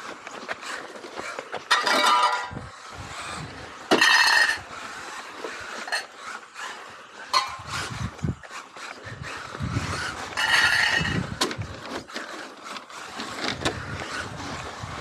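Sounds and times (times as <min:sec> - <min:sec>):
electric toy car motor whining: 0:00.0 - 0:15.0.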